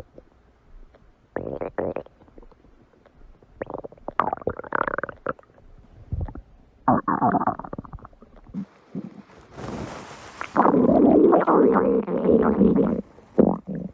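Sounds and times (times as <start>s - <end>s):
stomach growling: 1.4s - 9.3s, 10.6s - 13.9s.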